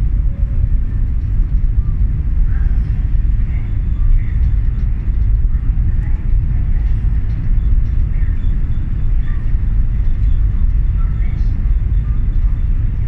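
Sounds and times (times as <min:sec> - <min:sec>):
ship machinery rumble: 0:00.0 - 0:13.0
wind buffeting microphone: 0:00.0 - 0:13.0.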